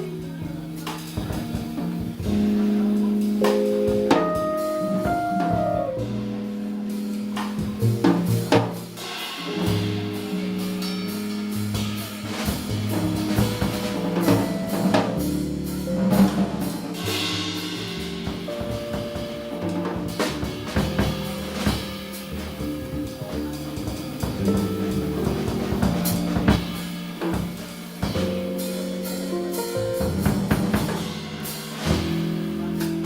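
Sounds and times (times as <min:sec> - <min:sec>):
low bass line: 0:00.0 - 0:09.0, 0:09.6 - 0:31.2
drum kit playing: 0:00.0 - 0:33.0
piano chords: 0:00.0 - 0:33.0.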